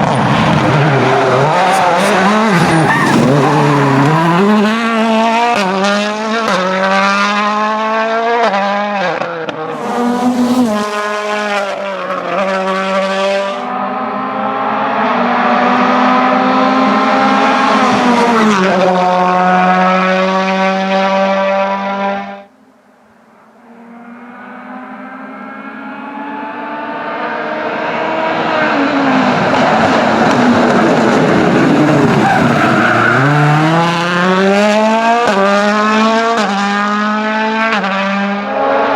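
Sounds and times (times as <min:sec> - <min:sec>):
rally car approaching: 0:00.0 - 0:38.9
rally car engine at full throttle: 0:00.0 - 0:38.9.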